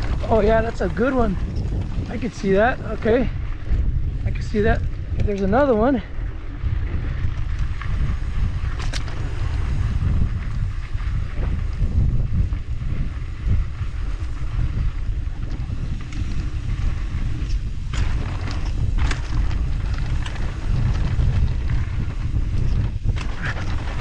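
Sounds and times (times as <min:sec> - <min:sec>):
sharp clicks and rattles: 0:00.0 - 0:06.2, 0:06.8 - 0:11.6, 0:14.7 - 0:24.0
tyres rolling over dirt: 0:00.0 - 0:24.0
wind buffeting microphone: 0:00.0 - 0:24.0.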